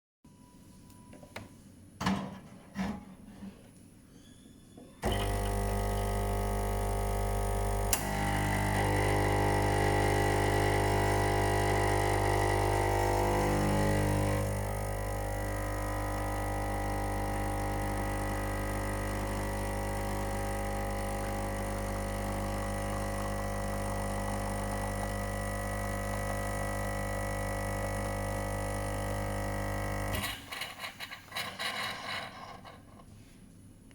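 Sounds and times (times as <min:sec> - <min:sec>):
espresso machine pump humming: 0:05.0 - 0:32.2.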